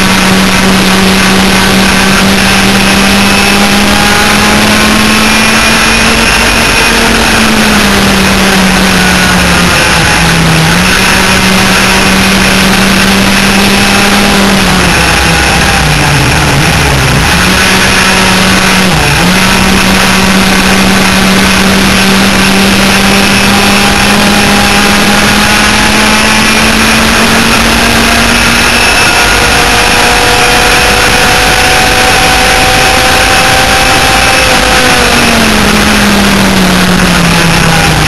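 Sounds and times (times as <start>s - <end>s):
kart engines revving: 0.0s - 38.0s.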